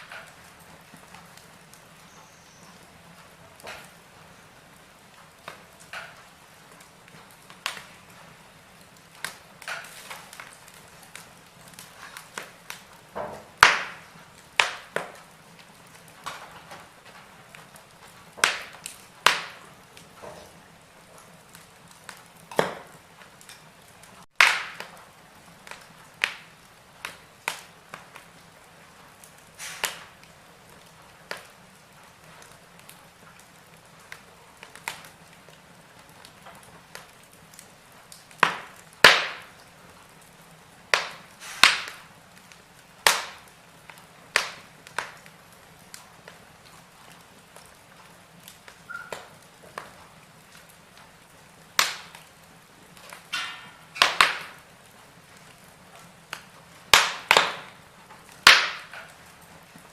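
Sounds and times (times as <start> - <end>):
soft steady hiss: 0.0 - 59.9
wood fire crackling: 0.0 - 59.9.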